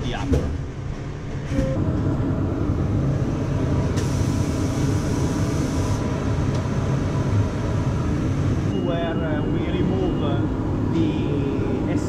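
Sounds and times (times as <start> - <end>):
factory machinery hum: 0.0 - 12.0.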